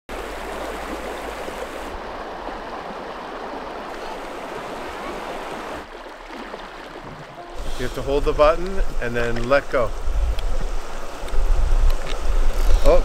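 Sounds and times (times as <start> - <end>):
river water rushing: 0.1 - 13.0.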